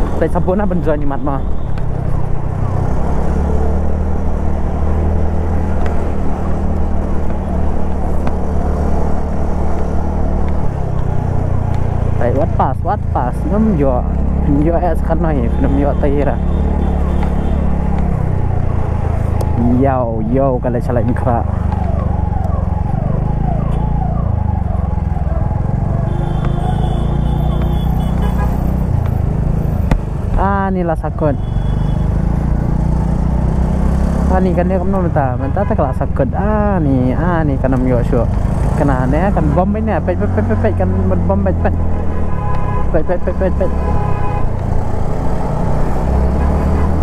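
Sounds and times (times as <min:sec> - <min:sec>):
wind and road noise: 0:00.0 - 0:47.0.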